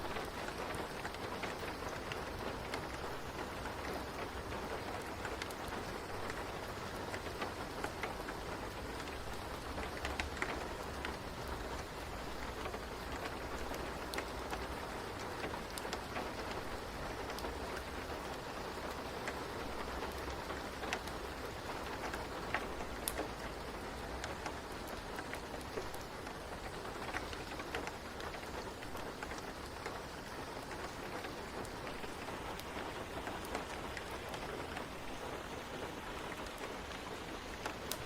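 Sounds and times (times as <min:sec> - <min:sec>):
falling rain hiss: 0:00.0 - 0:38.0.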